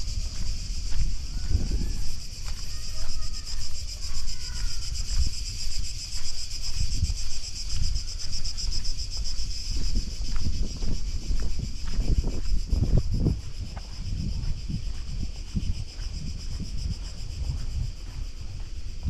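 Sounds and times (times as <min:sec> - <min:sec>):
cicadas buzzing: 0:00.0 - 0:19.0
wind buffeting microphone: 0:00.0 - 0:19.0.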